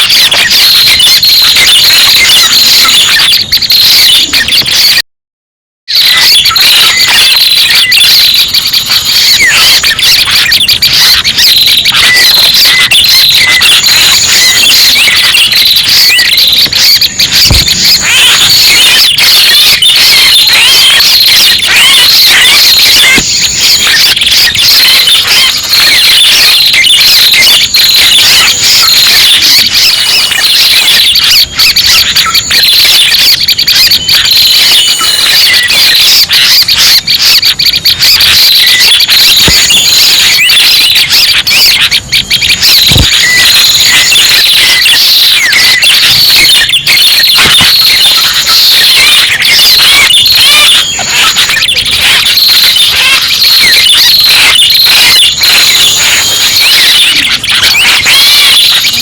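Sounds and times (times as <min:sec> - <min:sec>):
small birds twittering and chirping: 0:06.1 - 0:59.0.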